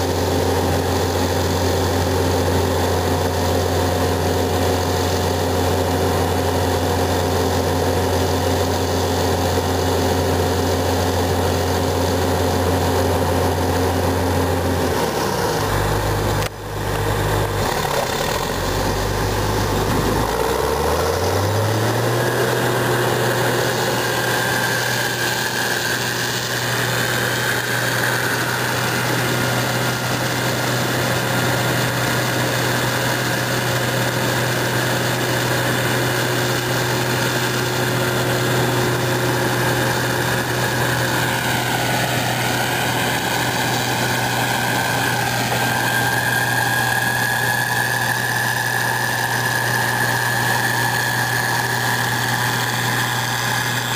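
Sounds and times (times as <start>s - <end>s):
harvester engine drone: 0.0s - 53.9s
high machinery whine: 0.0s - 53.9s.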